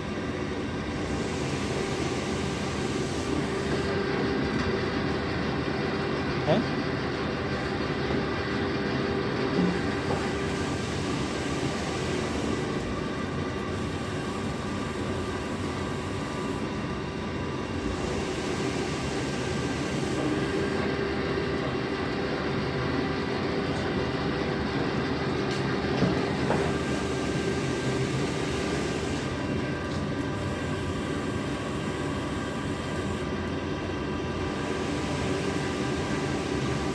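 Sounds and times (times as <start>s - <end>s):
washing machine humming: 0.0s - 36.9s.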